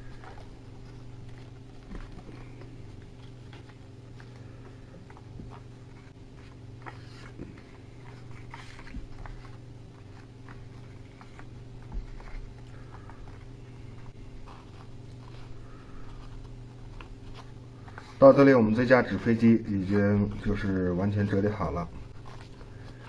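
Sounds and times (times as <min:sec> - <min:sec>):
paper crinkling: 0:00.0 - 0:23.0
steady low hum: 0:00.0 - 0:23.0.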